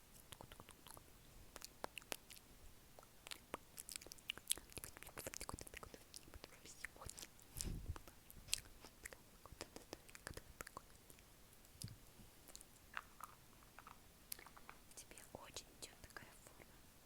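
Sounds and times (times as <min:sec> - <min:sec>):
wet mouth clicks and lip smacks: 0:00.2 - 0:02.4, 0:03.0 - 0:15.2.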